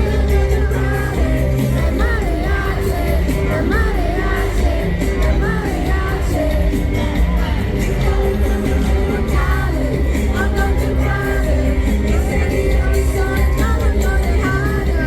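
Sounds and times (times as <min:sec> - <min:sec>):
live rock band: 0:00.0 - 0:15.0
person singing lead vocal: 0:00.0 - 0:15.0.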